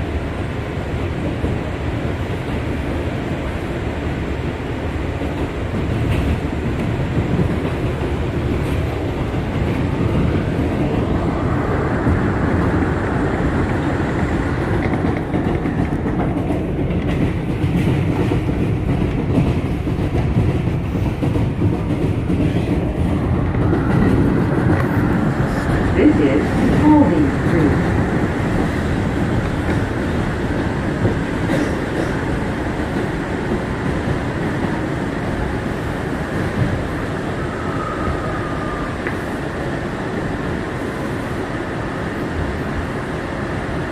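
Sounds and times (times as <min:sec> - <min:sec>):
subway train rolling on rails: 0:00.0 - 0:43.9.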